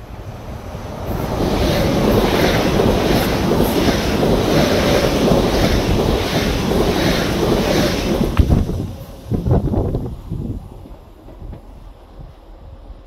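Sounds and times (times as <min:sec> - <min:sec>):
train wheels rumbling on rail: 0:00.0 - 0:13.0
wind buffeting microphone: 0:00.2 - 0:12.4.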